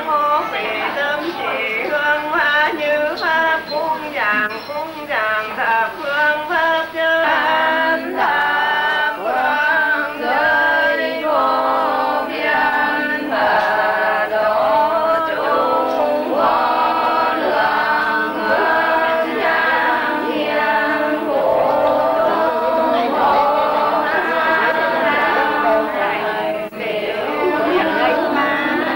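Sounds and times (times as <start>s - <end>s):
group singing devotional chant: 0.0s - 28.9s.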